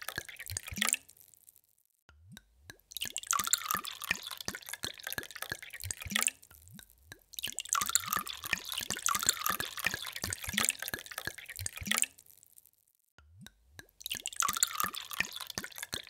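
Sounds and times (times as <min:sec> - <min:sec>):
water pouring into a glass: 0:00.0 - 0:01.3, 0:02.9 - 0:12.4, 0:13.9 - 0:16.0.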